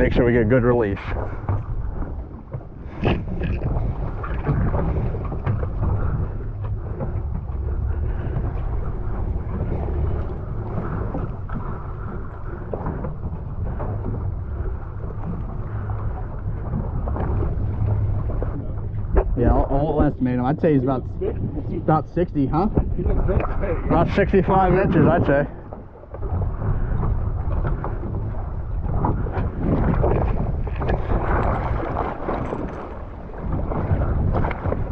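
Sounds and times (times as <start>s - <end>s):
boat engine rumbling: 0.0s - 34.9s
wind buffeting microphone: 0.0s - 34.9s.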